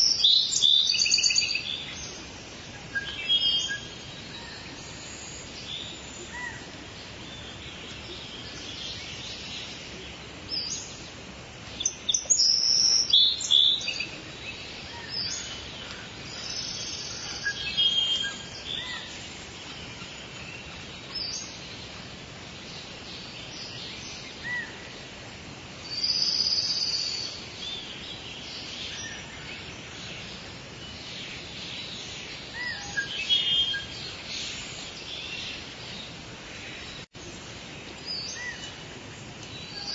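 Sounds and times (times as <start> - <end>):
birds chirping: 0.0 - 39.9
soft rain hiss: 0.0 - 39.9.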